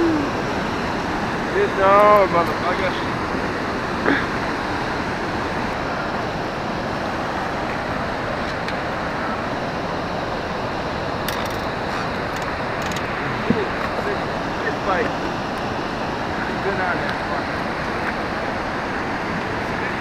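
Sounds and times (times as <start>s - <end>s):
river water rushing: 0.0s - 20.0s
wind: 0.0s - 20.0s.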